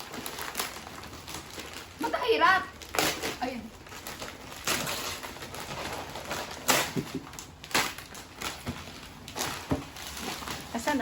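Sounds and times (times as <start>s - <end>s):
packaging paper rustling and tearing: 0.0s - 11.0s.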